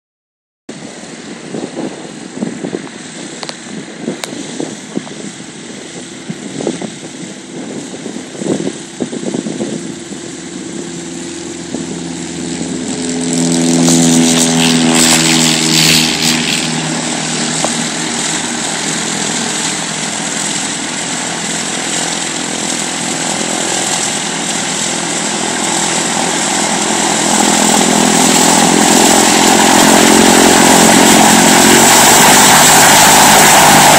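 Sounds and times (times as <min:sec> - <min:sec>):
rush of propeller air: 0:00.7 - 0:33.9
small plane engine and propeller: 0:00.7 - 0:33.9.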